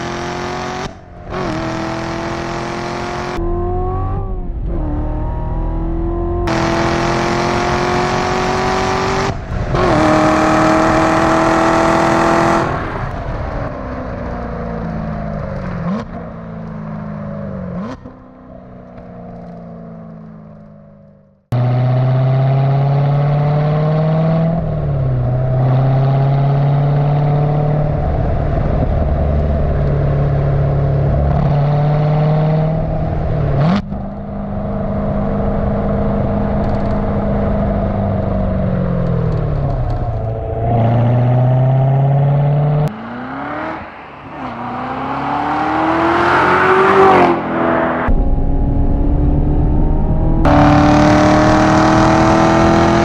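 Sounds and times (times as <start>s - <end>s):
car engine exhaust accelerating: 0.0s - 53.0s.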